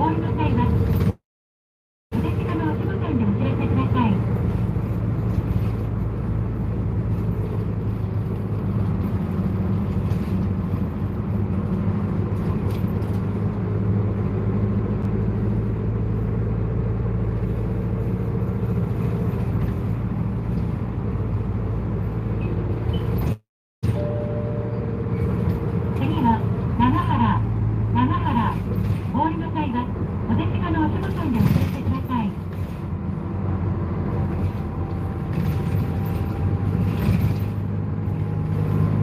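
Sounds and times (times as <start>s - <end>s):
bus engine drone: 0.0s - 1.2s, 2.1s - 39.0s
road noise: 0.0s - 1.2s, 2.1s - 39.0s.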